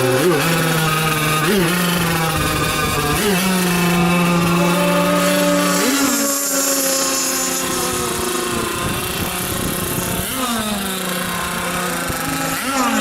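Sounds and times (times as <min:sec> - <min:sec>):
model boat engines running: 0:00.0 - 0:13.0.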